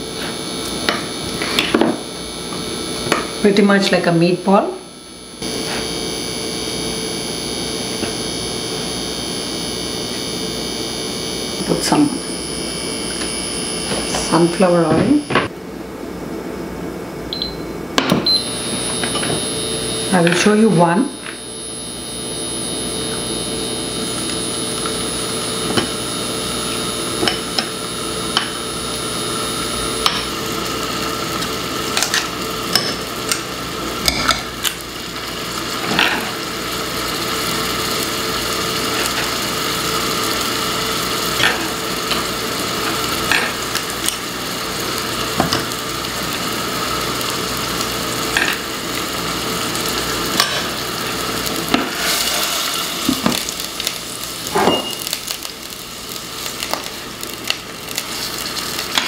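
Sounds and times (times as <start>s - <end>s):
sausage balls sizzling in oil: 0.0s - 15.3s, 18.3s - 59.0s.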